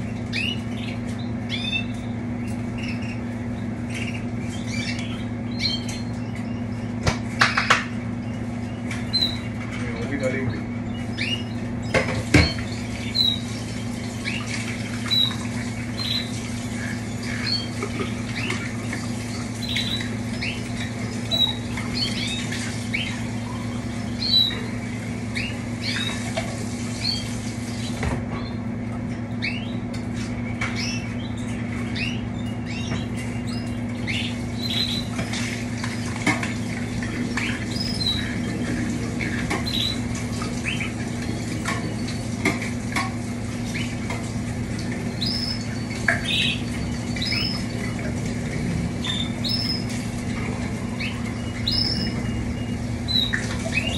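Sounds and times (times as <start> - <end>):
canaries chirping: 0.0 - 53.9
low electrical hum: 0.0 - 53.9.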